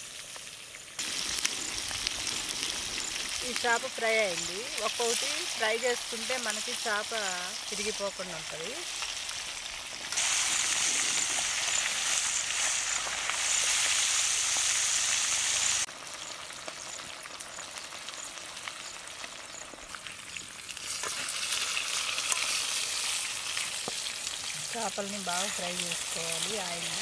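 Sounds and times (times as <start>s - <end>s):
fish sizzling in hot oil: 0.0s - 27.0s.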